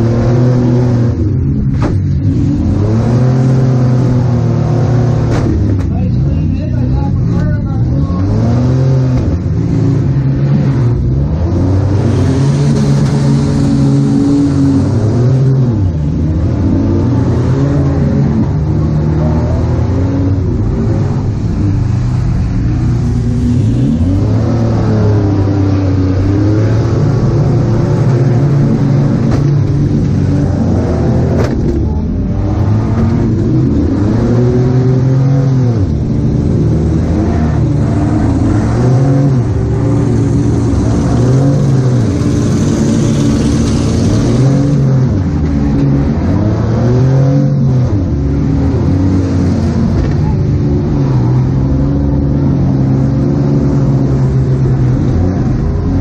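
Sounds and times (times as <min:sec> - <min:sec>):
van engine revving: 0:00.0 - 0:56.0.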